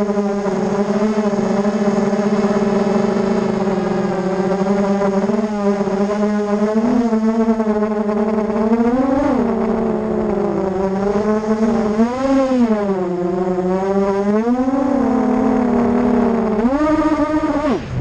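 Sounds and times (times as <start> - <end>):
drone motors buzzing: 0.0 - 18.0.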